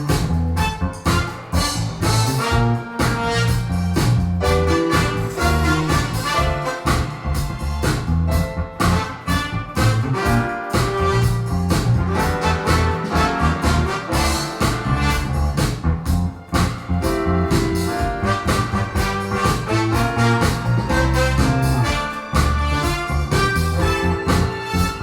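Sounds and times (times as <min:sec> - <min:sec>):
music over loudspeakers: 0:00.0 - 0:25.0.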